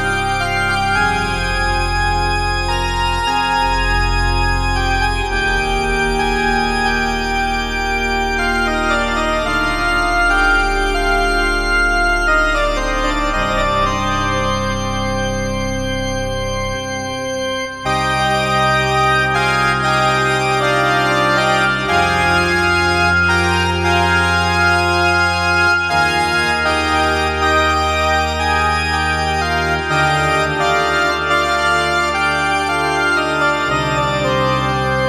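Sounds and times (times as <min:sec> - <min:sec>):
synthesizer organ chords: 0:00.0 - 0:35.0.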